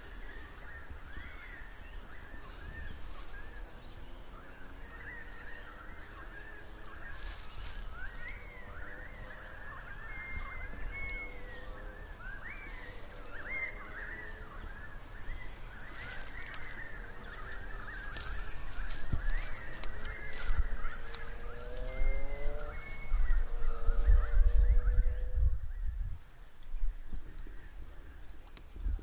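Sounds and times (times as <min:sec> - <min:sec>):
birds chattering: 0:00.0 - 0:26.0
wind rumble on microphone: 0:00.0 - 0:29.0.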